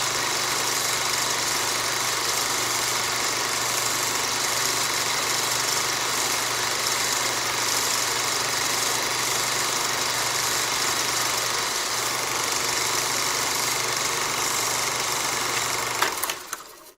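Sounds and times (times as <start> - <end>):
film projector whirring: 0.0 - 16.9.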